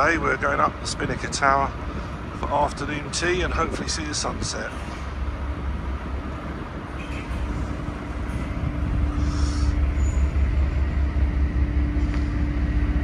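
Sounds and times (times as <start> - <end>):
diesel engines rumbling: 0.0 - 13.0.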